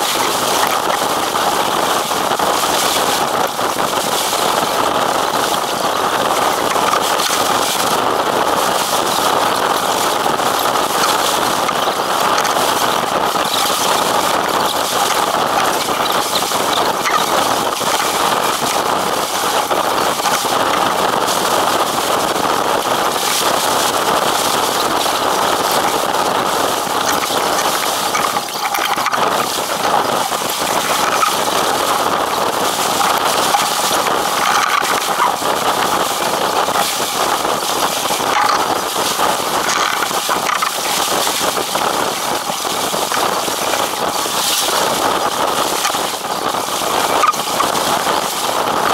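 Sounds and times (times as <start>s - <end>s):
water rushing past a hull: 0.0s - 48.9s
wind buffeting microphone: 0.0s - 48.9s.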